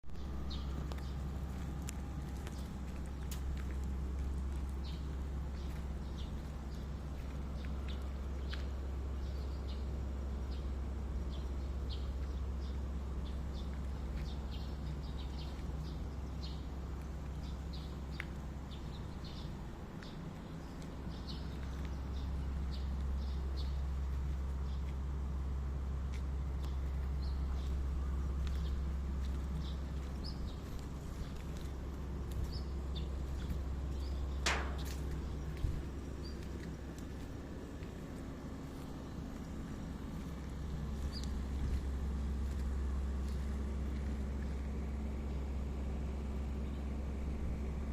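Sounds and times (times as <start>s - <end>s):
steady low rumble: 0.0s - 47.9s
birds chirping: 0.1s - 45.5s.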